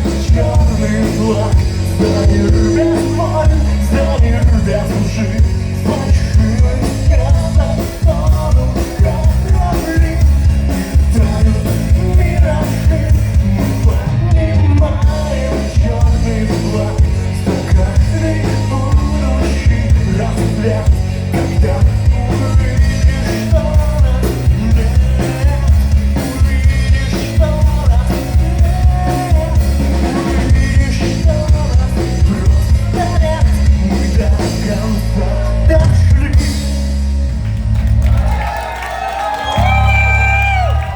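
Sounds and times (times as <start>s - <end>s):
person singing: 0.0s - 36.7s
driving drum beat: 0.0s - 40.9s
live rock band: 0.0s - 40.9s.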